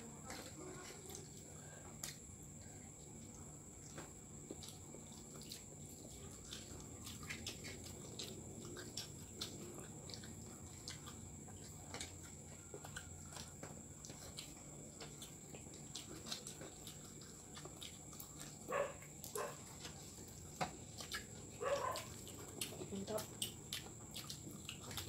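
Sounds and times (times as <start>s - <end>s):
faint chewing: 0.0s - 25.0s.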